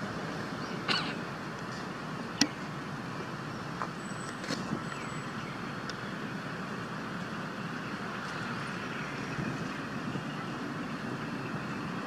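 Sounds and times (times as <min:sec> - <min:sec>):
distant traffic: 0:00.0 - 0:12.0.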